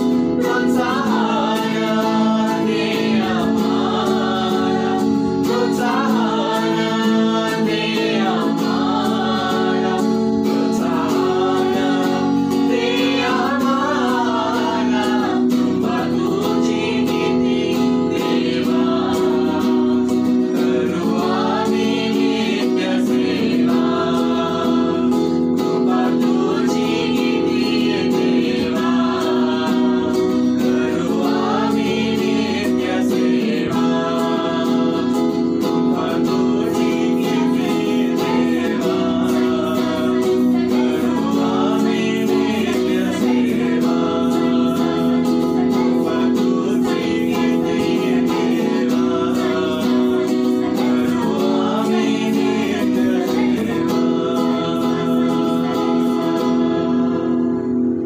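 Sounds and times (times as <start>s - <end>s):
instrumental accompaniment: 0.0s - 58.0s
voices singing worship song: 0.0s - 58.0s.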